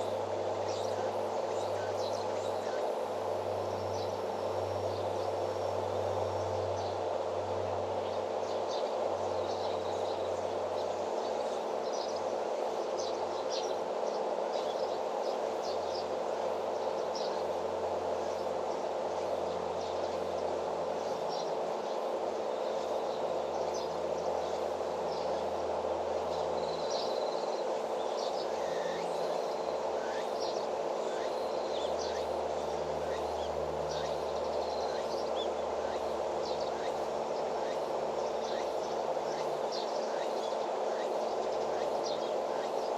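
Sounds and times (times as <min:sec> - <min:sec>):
small birds chirping: 0:00.0 - 0:07.1, 0:08.0 - 0:42.9.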